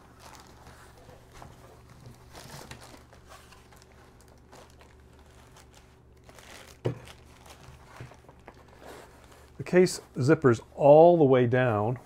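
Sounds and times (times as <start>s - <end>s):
nylon case rustling: 0.0s - 10.2s
plastic wrapping crinkling: 0.0s - 10.2s.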